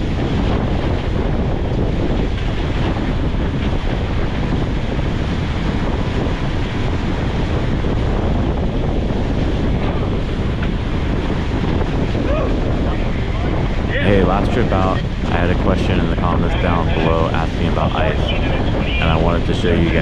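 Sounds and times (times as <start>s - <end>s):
boat wake churning: 0.0s - 20.0s
wind buffeting microphone: 0.0s - 20.0s.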